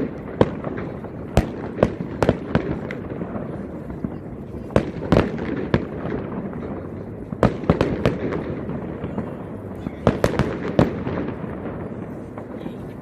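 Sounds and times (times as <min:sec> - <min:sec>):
crowd noise: 0:00.0 - 0:13.0
fireworks exploding: 0:00.0 - 0:13.0.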